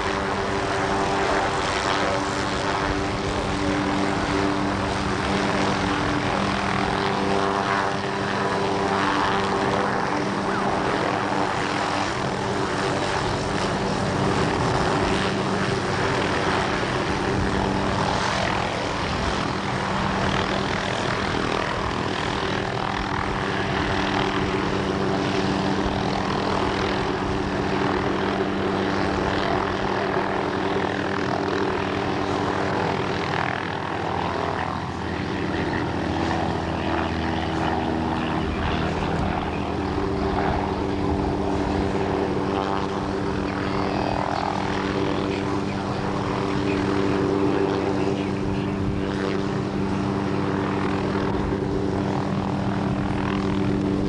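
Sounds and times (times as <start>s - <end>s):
helicopter engine and rotors: 0.0s - 54.0s.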